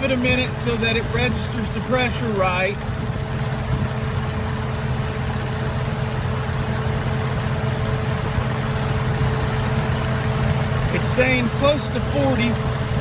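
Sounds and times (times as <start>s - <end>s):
ac compressor running: 0.0s - 13.0s
car engine idling: 0.0s - 13.0s.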